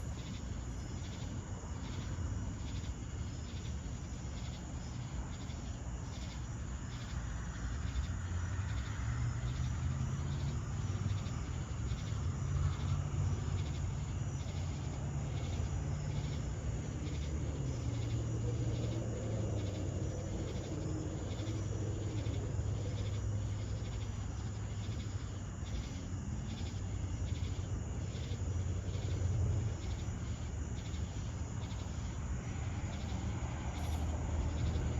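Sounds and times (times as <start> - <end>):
continuous low rumble: 0.0 - 34.9
crickets and katydids chirping: 0.0 - 34.9.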